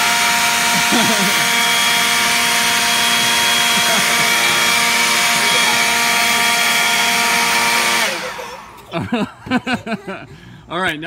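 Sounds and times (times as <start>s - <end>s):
leaf blower running: 0.0s - 10.1s.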